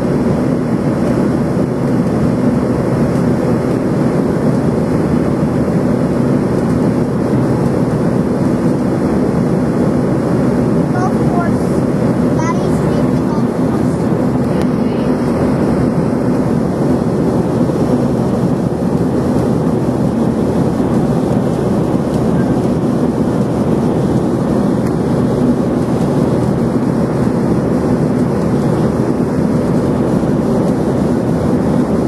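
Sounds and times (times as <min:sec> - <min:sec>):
airliner cabin engine and airflow rush: 0:00.0 - 0:32.0.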